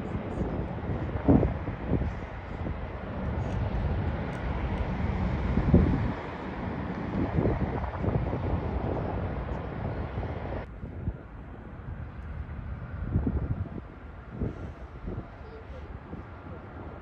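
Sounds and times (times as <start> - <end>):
distant jet airliner rumble: 0.0 - 17.0
wind buffeting microphone: 0.0 - 17.0.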